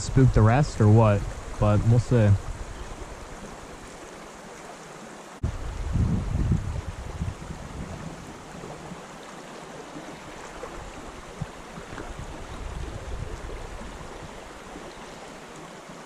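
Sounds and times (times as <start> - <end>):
creek water running over riffles: 0.0 - 16.0.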